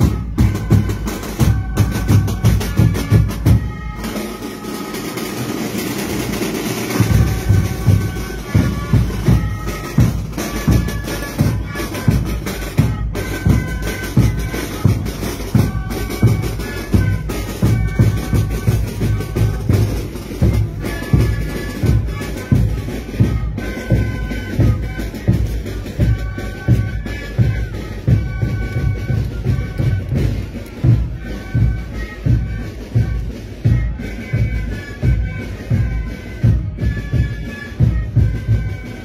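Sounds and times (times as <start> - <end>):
marching band playing: 0.0 - 39.0.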